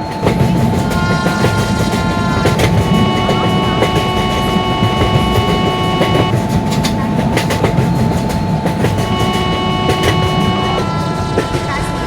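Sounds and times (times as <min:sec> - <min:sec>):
high-pitched tones: 0:00.0 - 0:12.0
train rumbling past: 0:00.0 - 0:12.0
wheels clattering over rail joints: 0:00.0 - 0:12.0.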